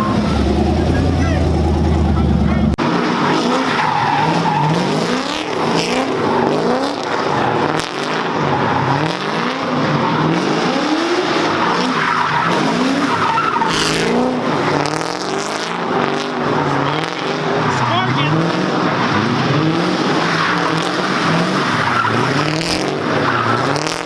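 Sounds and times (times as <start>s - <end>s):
car engine revving: 0.0s - 24.0s
tires squealing: 0.0s - 24.0s.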